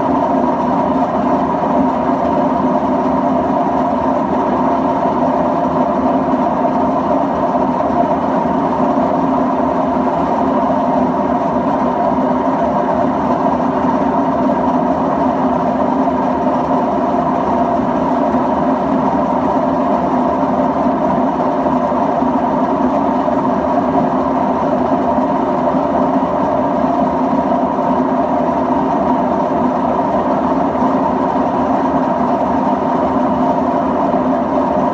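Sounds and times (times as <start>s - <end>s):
washing machine drum running: 0.0s - 34.9s.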